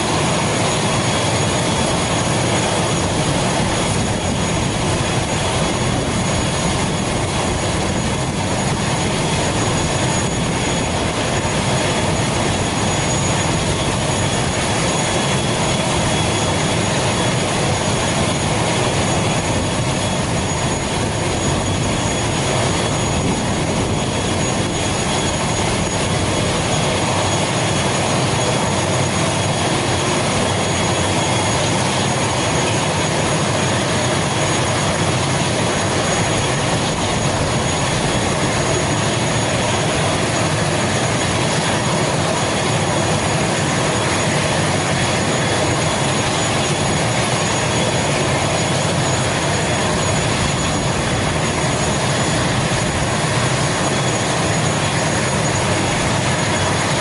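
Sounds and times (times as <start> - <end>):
high turbine whine: 0.0 - 57.0
turboprop engine running: 0.0 - 57.0.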